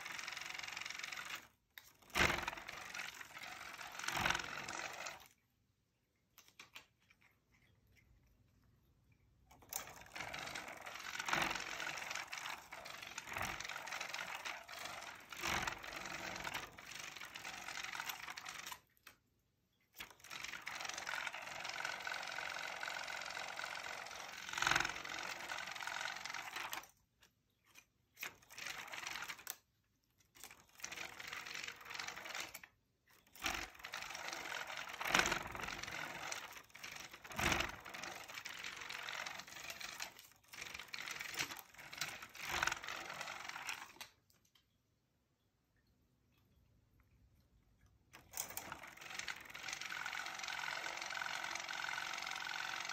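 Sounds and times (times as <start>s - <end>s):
spinning toy whirring: 0.0s - 5.4s, 9.4s - 19.2s, 19.9s - 27.0s, 27.7s - 29.7s, 30.3s - 44.2s, 48.2s - 52.9s.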